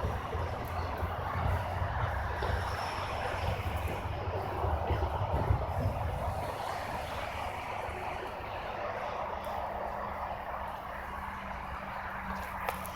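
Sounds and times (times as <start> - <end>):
freight train wheels rumbling: 0.0 - 12.9.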